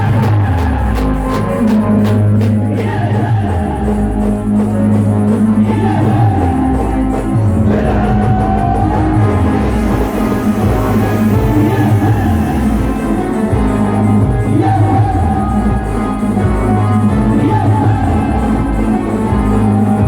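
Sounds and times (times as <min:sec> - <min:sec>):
amplified live band music: 0:00.0 - 0:20.0
deep sliding bass notes: 0:00.0 - 0:20.0.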